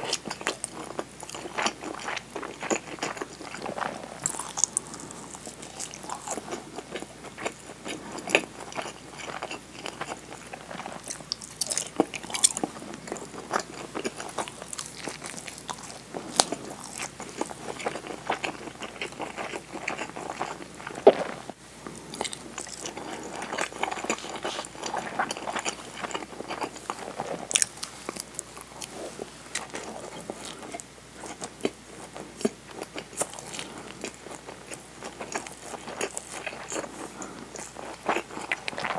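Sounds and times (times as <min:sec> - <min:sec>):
close chewing and crunching: 0:00.0 - 0:38.9.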